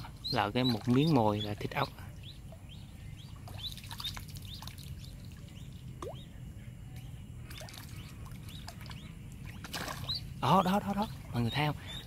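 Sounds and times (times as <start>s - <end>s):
ducklings peeping: 0.0s - 6.4s, 7.0s - 12.0s
steady low hum: 0.0s - 12.0s.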